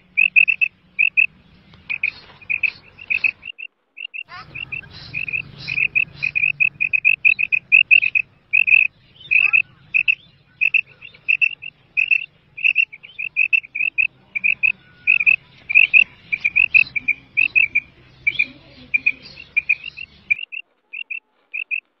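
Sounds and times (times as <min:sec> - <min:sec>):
low steady hum: 0:00.0 - 0:03.6, 0:04.3 - 0:20.4
quail calling: 0:00.0 - 0:22.0.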